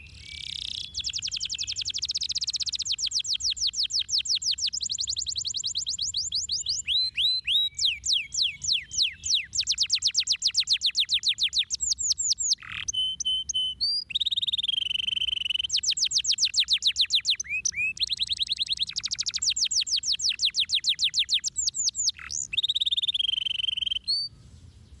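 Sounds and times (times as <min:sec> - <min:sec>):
canary singing fast trills: 0:00.0 - 0:25.0.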